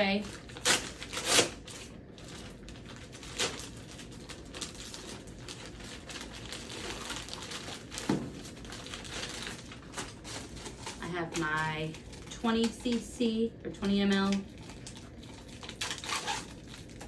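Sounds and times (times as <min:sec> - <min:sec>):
sharp plastic crackles: 0:00.0 - 0:13.1, 0:13.7 - 0:17.0
plastic packaging crinkling: 0:00.0 - 0:17.0.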